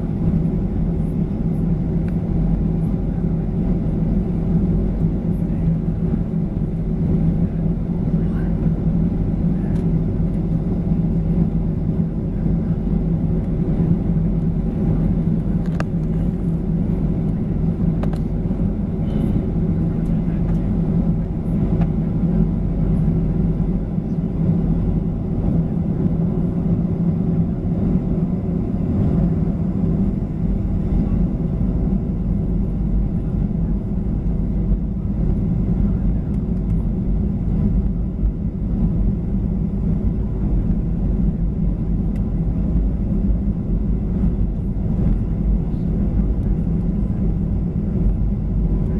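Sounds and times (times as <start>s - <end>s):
jet engine drone in cabin: 0.0s - 48.9s.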